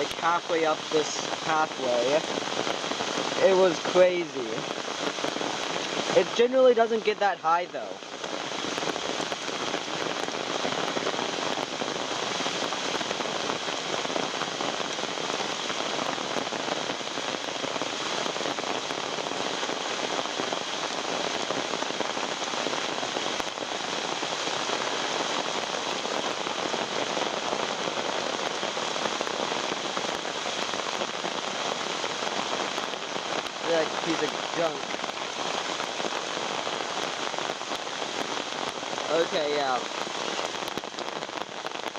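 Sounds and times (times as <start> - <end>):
rain pattering on umbrella: 0.0 - 41.9.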